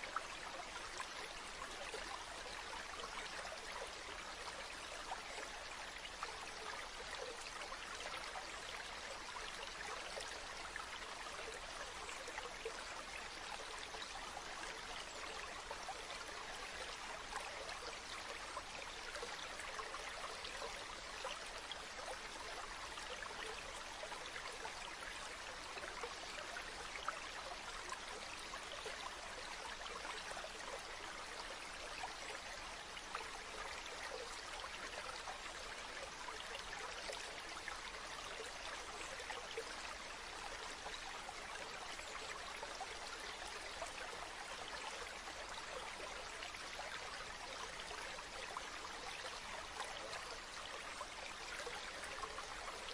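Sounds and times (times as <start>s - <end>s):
stream flowing over stones: 0.0s - 52.9s.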